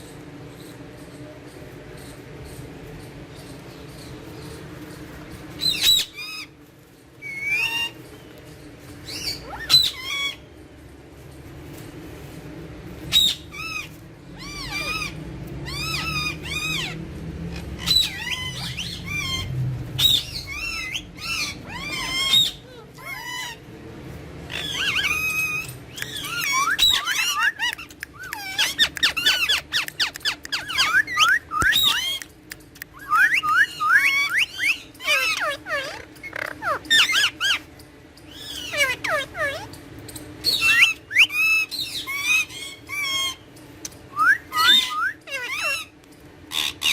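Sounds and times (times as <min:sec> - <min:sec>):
parakeets squawking and chattering: 0:00.0 - 0:46.9.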